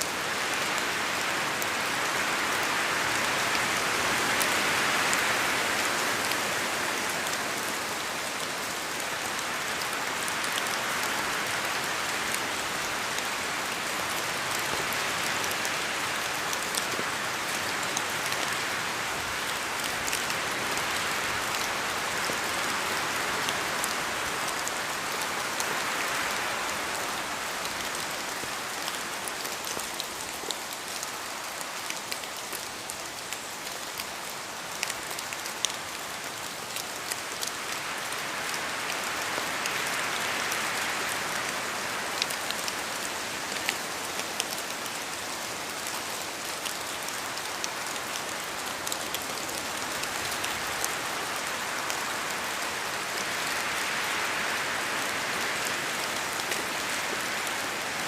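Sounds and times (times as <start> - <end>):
rain falling in a forest: 0.0 - 58.0.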